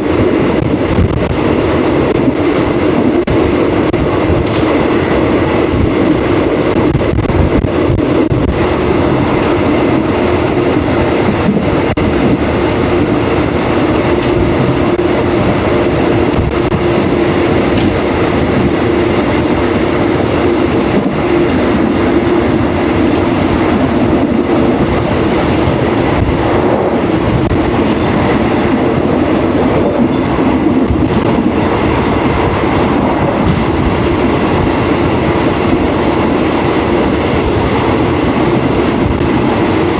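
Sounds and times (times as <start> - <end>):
train wheels rattling on rails: 0.0 - 39.9.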